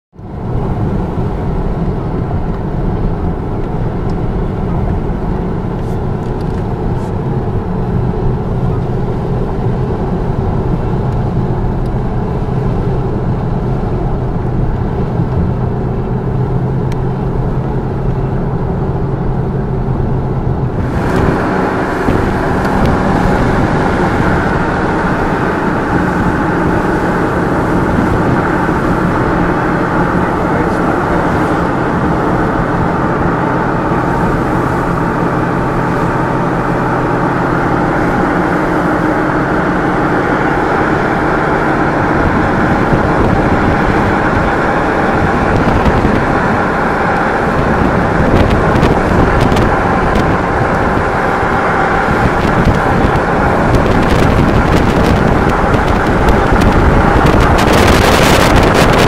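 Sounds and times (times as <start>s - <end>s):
car engine drone: 0.1s - 59.0s
road rumble: 0.1s - 59.0s.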